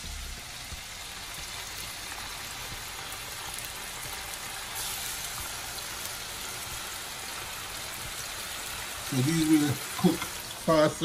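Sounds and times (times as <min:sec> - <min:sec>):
chicken sizzling in a frying pan: 0:00.0 - 0:11.0.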